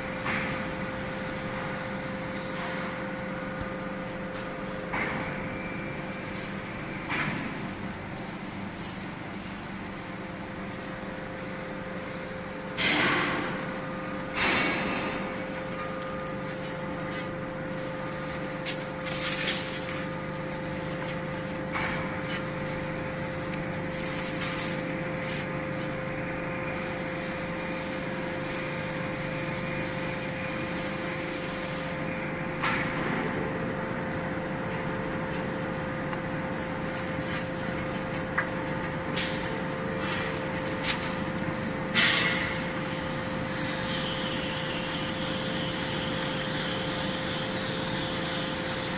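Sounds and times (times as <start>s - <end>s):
hydraulic power unit humming: 0.0s - 48.9s.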